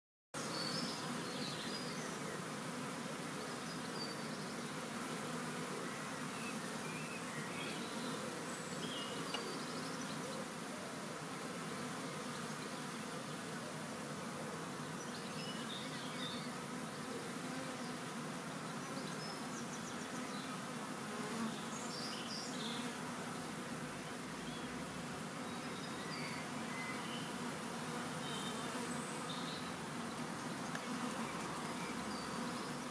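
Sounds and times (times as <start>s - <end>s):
swarm of bees buzzing: 0.4s - 32.9s.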